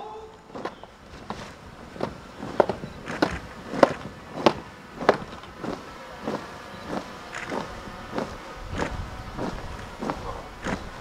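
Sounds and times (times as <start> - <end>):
boots marching on dirt: 0.3 - 11.0.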